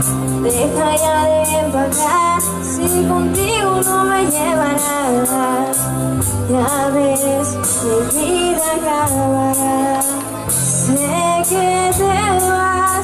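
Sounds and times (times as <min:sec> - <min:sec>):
bass notes: 0:00.0 - 0:13.0
woman singing a ballad: 0:00.0 - 0:13.0.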